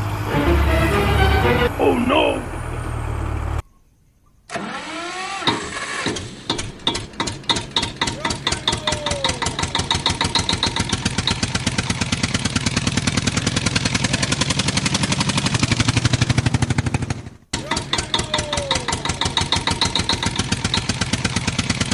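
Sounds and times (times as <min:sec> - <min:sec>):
tractor engine starting: 0:00.0 - 0:03.6, 0:04.5 - 0:21.9.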